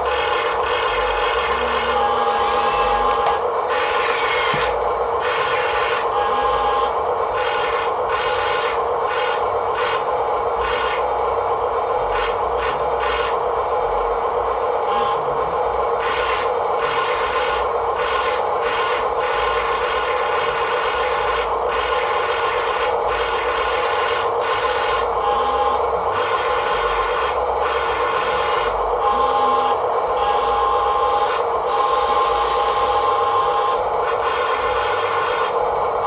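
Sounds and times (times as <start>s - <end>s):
small motor whining: 0.0s - 11.2s, 14.9s - 35.6s.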